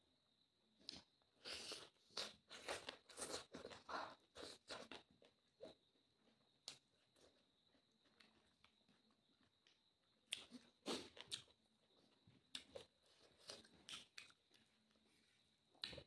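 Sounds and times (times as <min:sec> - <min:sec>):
person chewing food: 0:00.8 - 0:16.0.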